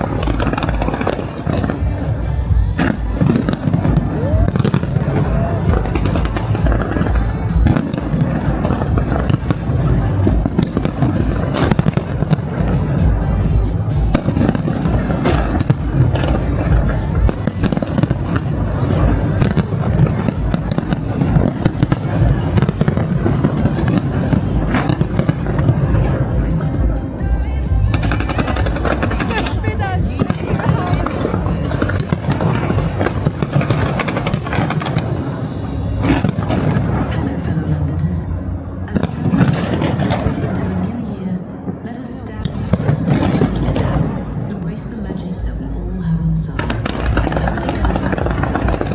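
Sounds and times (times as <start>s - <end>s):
low booming: 0.0s - 40.7s
fireworks bangs and crackling: 0.0s - 48.9s
music playing: 0.0s - 48.9s.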